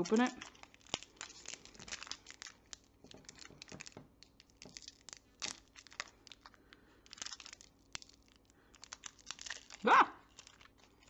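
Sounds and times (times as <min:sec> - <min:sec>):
candy wrapper crinkling: 0:00.0 - 0:11.0.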